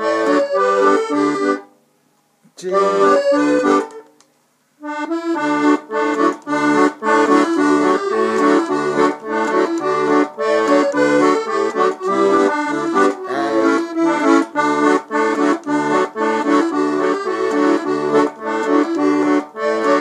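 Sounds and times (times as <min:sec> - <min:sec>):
piano accordion playing: 0:00.0 - 0:01.7, 0:02.6 - 0:04.1, 0:04.8 - 0:20.0.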